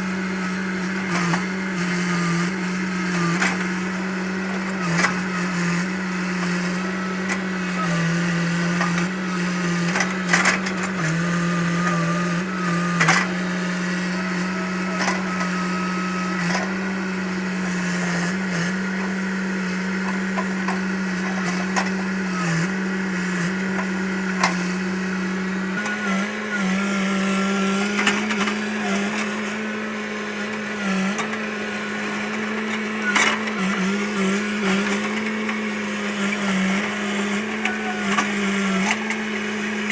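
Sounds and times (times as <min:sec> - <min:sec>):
excavator engine droning: 0:00.0 - 0:39.9.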